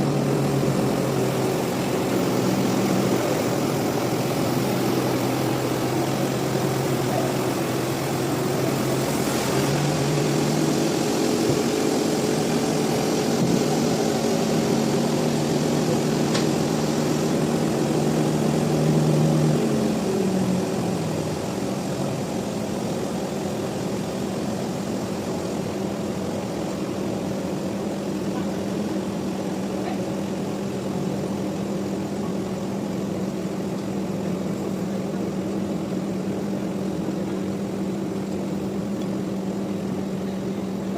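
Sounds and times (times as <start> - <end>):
large engine running: 0.0 - 40.9.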